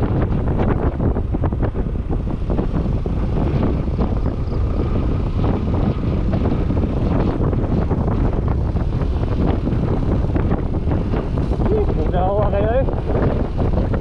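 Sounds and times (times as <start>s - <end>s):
engine and road rumble: 0.0s - 14.0s
wind buffeting microphone: 0.0s - 14.0s.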